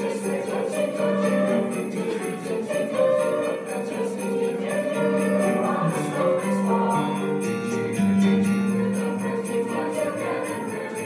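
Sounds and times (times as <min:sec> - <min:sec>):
mixed choir singing: 0:00.0 - 0:11.0
sleigh bells jingling: 0:00.0 - 0:11.0.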